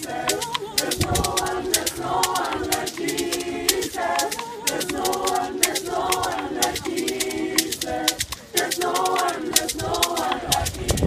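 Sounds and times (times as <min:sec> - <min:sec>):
choir singing a cappella: 0:00.0 - 0:11.0
short sharp beats: 0:00.0 - 0:11.0.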